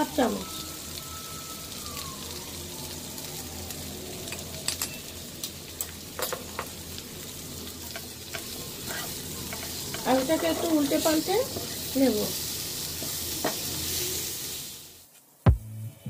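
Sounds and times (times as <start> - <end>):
potatoes sizzling in a pan: 0.0 - 15.1.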